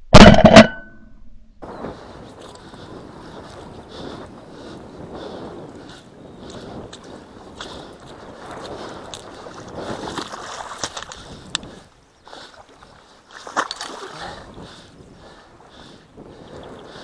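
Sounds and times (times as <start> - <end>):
footsteps wading through water: 2.2 - 4.8, 5.6 - 17.0.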